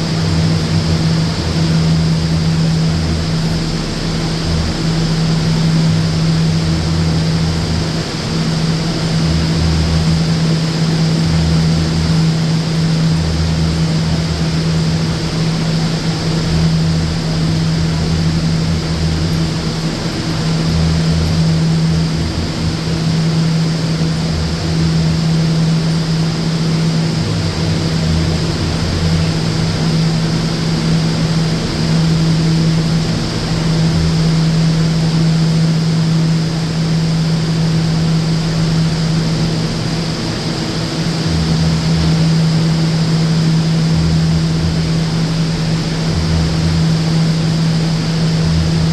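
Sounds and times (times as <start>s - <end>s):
air conditioning unit humming: 0.0s - 48.9s
deep rumble: 0.0s - 48.9s.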